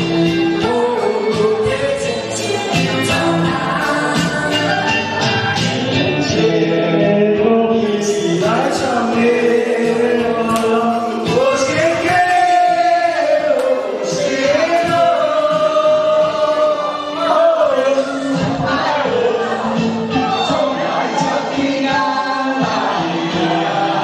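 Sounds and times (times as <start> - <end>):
group of voices singing: 0.0 - 24.0.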